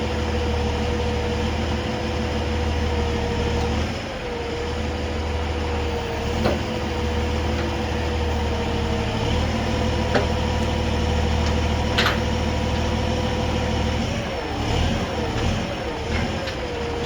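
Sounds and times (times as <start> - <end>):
truck engine whining: 0.0 - 17.0.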